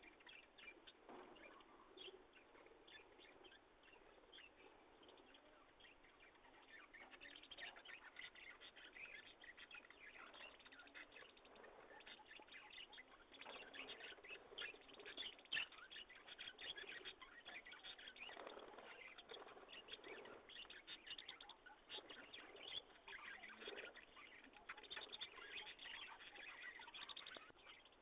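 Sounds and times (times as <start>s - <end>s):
small birds twittering: 0.0s - 28.0s.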